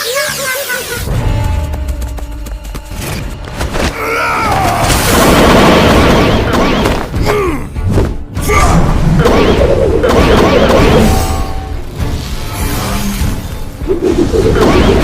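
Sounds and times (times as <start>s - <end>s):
action soundtrack music: 0.0s - 15.0s.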